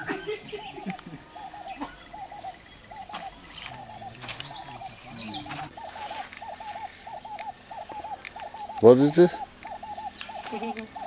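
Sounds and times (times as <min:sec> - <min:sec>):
insect chirping call: 0:00.0 - 0:11.0
insects buzzing: 0:00.0 - 0:11.0.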